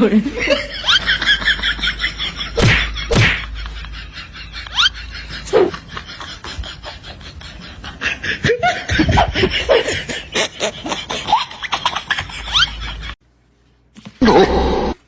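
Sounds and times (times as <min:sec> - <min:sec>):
people laughing: 0:00.1 - 0:13.2.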